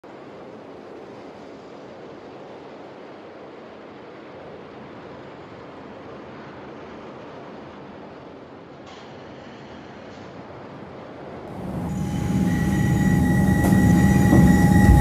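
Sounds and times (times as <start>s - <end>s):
subway train running: 0.0s - 15.0s.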